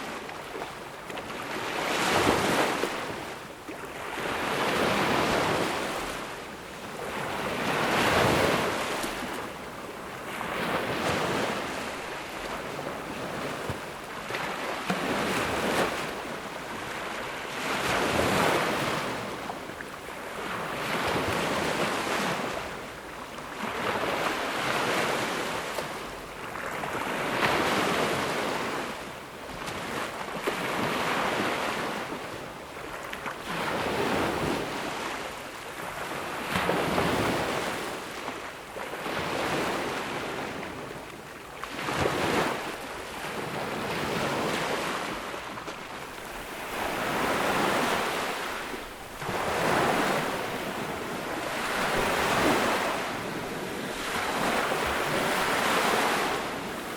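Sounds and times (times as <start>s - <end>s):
small waves breaking on beach: 0.0s - 56.9s.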